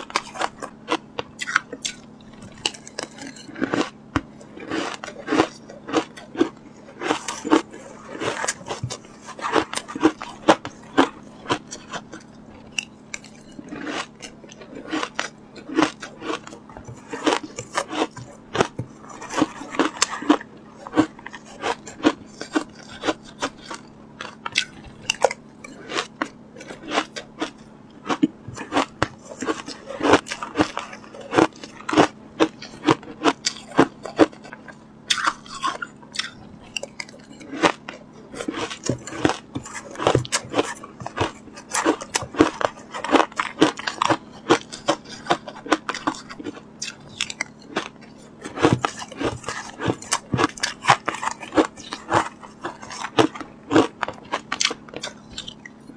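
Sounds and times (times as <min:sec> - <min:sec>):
ice crunching while chewed: 0:00.0 - 0:55.9.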